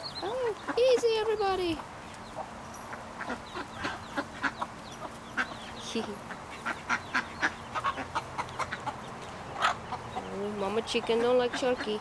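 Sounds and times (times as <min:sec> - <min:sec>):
baby chicks peeping: 0:00.0 - 0:12.0
ducks quacking softly: 0:00.4 - 0:12.0.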